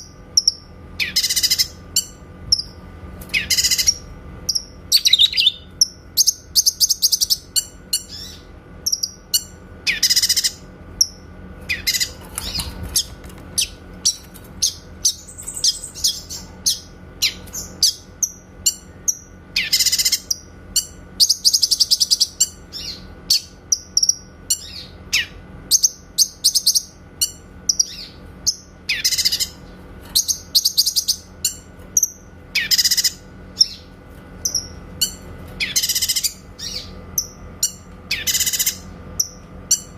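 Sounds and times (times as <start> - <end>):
faint steady hum: 0.0 - 39.9
songbird singing: 0.0 - 39.9.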